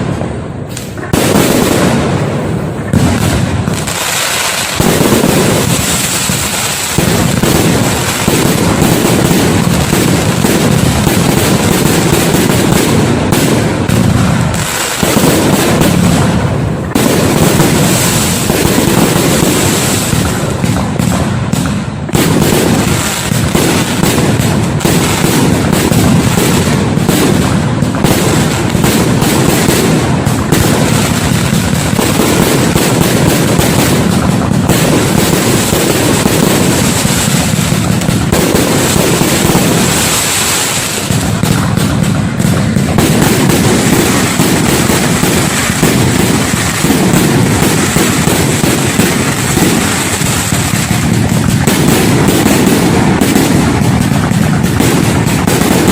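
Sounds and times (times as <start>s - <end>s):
fireworks bangs and crackling: 0.0s - 55.9s.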